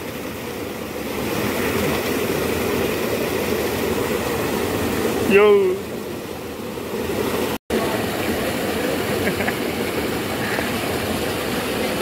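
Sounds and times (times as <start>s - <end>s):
fast water rushing in a channel: 0.0s - 12.0s.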